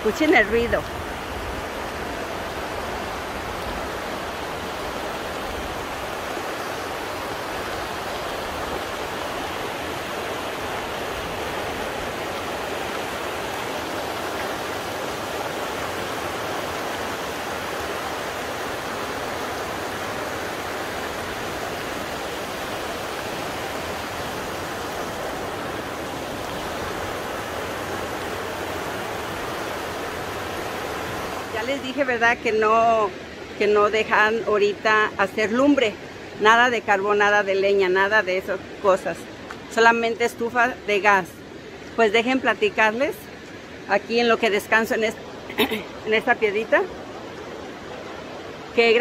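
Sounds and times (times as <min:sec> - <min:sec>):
water falling and flowing: 0:00.0 - 0:34.1, 0:38.2 - 0:49.0.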